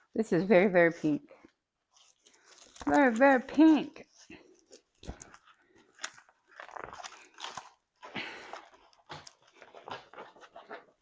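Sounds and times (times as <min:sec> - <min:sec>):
plastic packaging crinkling: 0:01.9 - 0:11.0.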